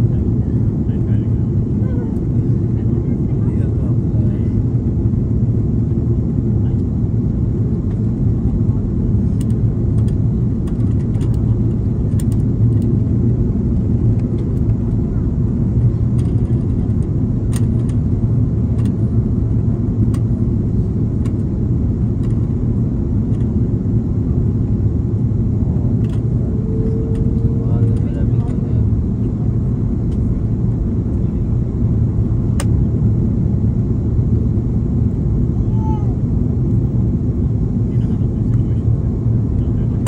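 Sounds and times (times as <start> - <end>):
airplane cabin engine drone: 0.0 - 40.0.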